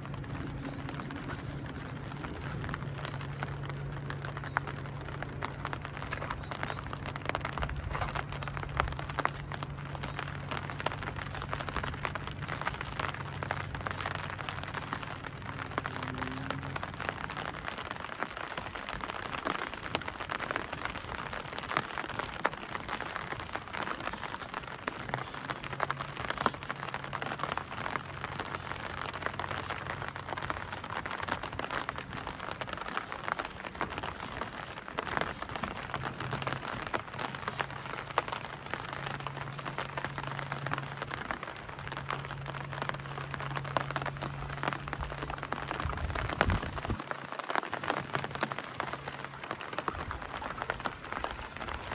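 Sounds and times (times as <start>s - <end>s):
low steady hum: 0.0s - 51.9s
rain pattering: 0.0s - 51.9s.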